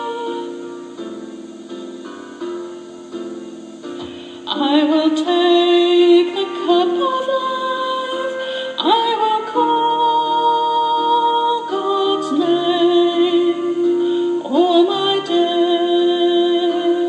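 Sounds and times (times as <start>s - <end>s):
person singing slow psalm: 0.0s - 1.1s, 4.1s - 17.0s.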